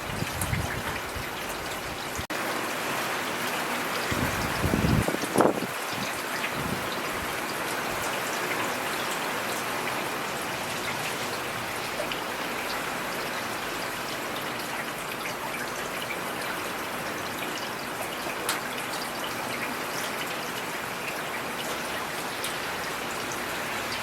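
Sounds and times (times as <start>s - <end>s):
steady rainfall: 0.0s - 24.0s
raindrops ticking close by: 3.4s - 24.0s.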